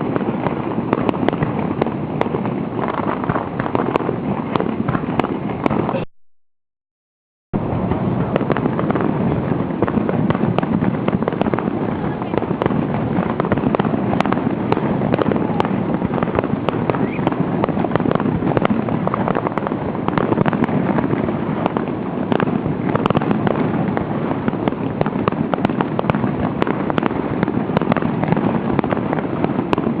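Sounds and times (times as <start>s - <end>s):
fireworks bangs and crackles: 0.0s - 6.1s, 7.6s - 30.0s.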